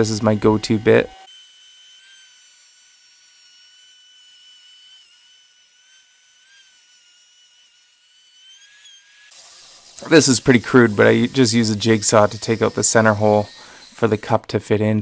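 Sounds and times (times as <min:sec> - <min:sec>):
router high-pitched whine: 0:00.0 - 0:14.4.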